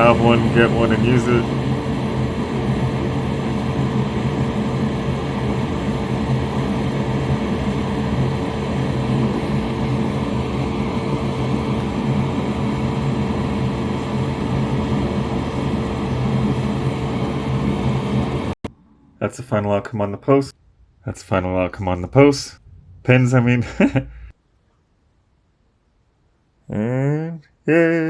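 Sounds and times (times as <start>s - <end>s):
extractor fan whirring: 0.0s - 18.8s, 20.6s - 24.3s.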